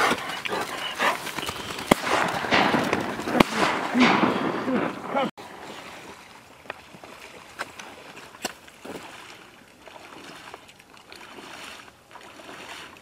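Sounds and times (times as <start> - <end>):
footsteps sloshing through water: 0.0 - 3.4, 5.4 - 13.0
sharp water splashes: 0.0 - 13.0.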